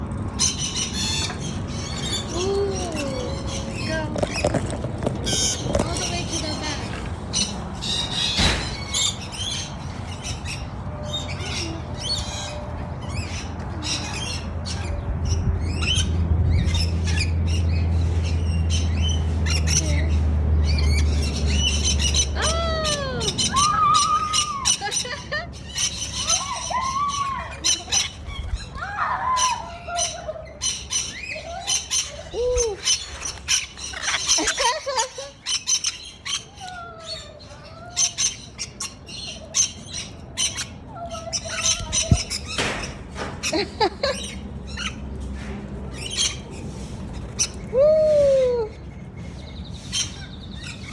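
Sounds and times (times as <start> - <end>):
parrots squawking and chirping: 0.0 - 50.9.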